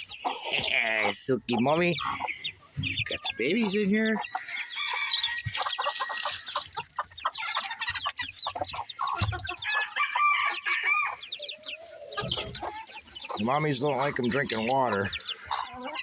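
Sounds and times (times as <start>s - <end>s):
chickens clucking: 0.0s - 16.0s
chicks peeping: 0.0s - 16.0s.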